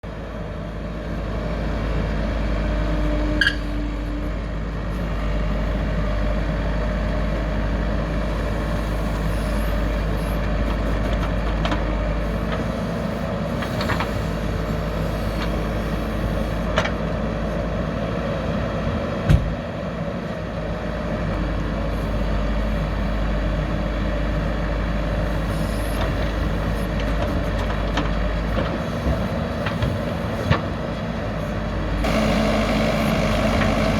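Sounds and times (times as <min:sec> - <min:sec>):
heavy diesel engines running: 0:00.0 - 0:33.9.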